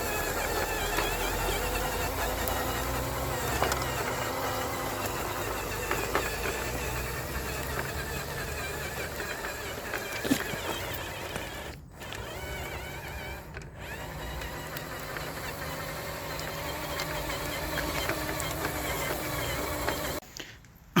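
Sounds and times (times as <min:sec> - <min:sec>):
rc truck motor whining: 0:00.0 - 0:20.2.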